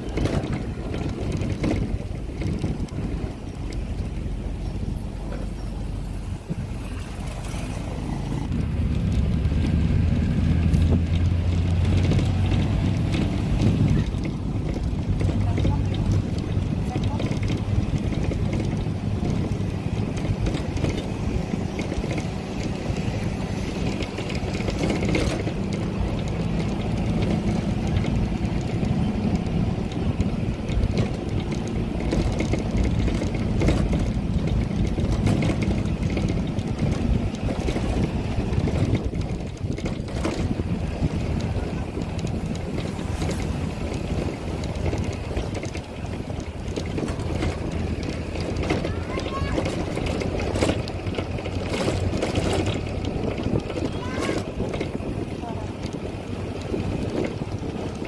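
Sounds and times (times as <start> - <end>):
engine drone and road rumble: 0.0 - 58.0.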